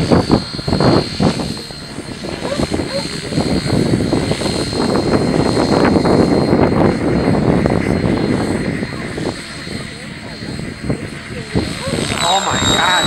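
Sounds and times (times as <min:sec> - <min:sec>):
model helicopter rotor and motor: 0:00.0 - 0:13.0
thin high whine: 0:00.0 - 0:13.0.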